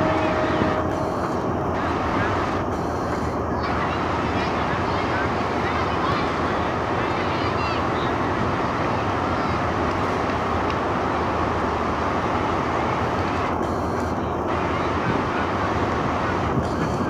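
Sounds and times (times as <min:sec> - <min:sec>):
train rumbling over rails: 0:00.0 - 0:17.0.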